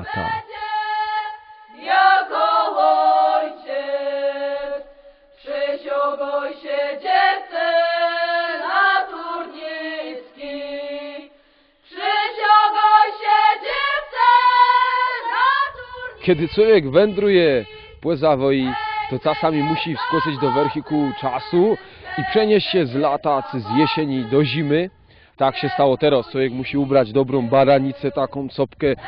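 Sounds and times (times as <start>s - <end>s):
voices singing: 0.0s - 29.0s.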